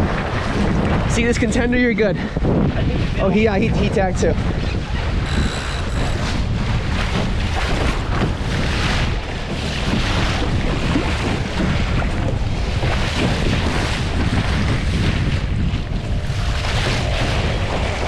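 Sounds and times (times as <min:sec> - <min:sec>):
water rushing along a hull: 0:00.0 - 0:18.0
wind buffeting microphone: 0:00.0 - 0:18.0.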